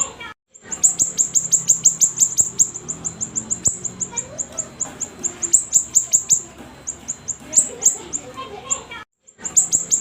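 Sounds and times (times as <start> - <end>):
songbird chirping: 0.0 - 10.0.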